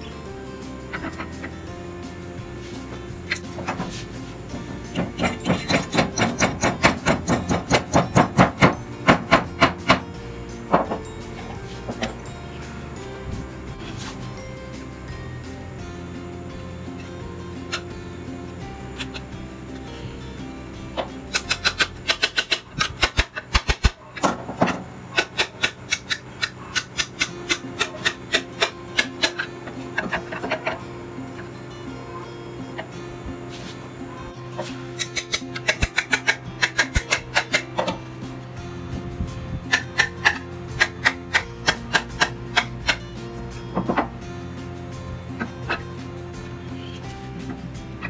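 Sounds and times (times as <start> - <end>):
background music: 0.0 - 48.0.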